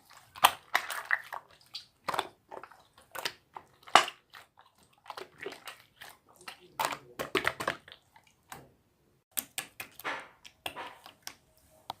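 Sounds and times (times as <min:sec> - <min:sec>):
slime squelching by hand: 0:00.0 - 0:12.0.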